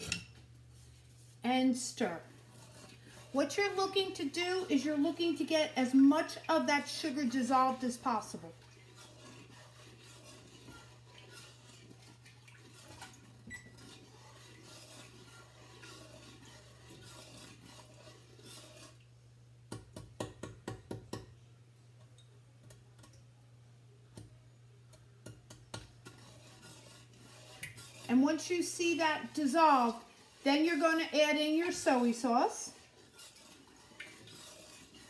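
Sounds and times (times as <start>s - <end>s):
spoon stirring in a pot: 0.0s - 1.4s, 2.0s - 21.4s, 24.1s - 35.0s.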